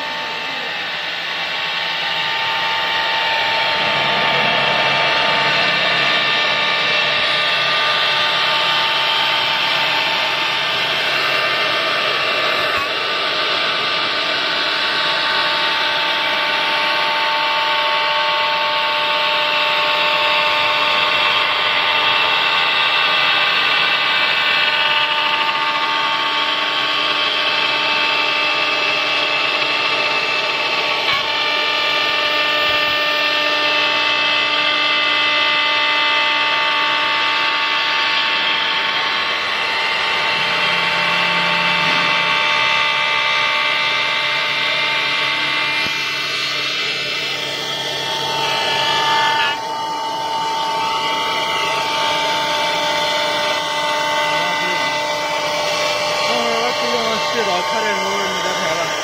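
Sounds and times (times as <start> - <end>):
cnc router running: 0.0 - 59.0.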